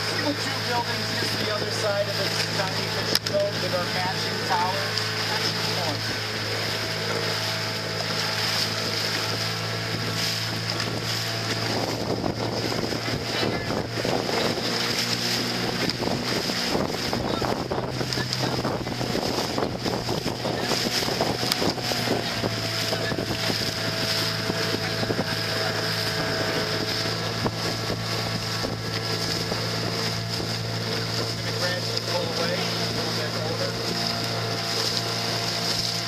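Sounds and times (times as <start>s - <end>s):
outboard motor running: 0.0s - 36.0s
water rushing past hull: 0.0s - 36.0s
wind on microphone: 0.0s - 36.0s.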